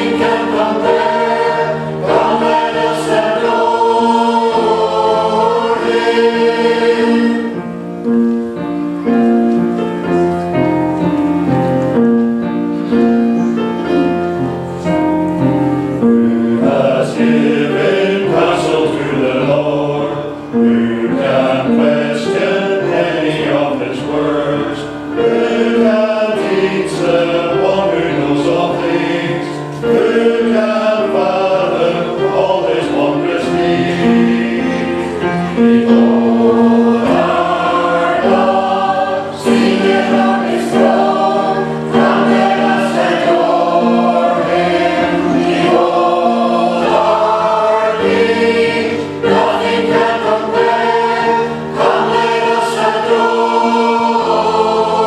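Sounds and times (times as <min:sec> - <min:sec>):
church choir singing: 0:00.0 - 0:55.0.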